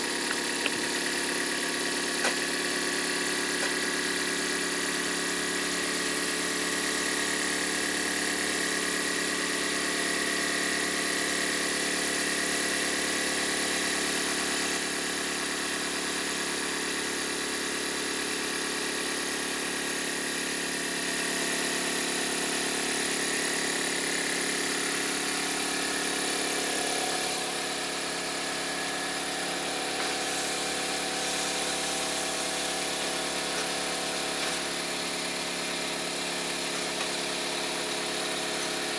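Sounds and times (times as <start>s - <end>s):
model steam tractor whirring: 0.0s - 38.9s.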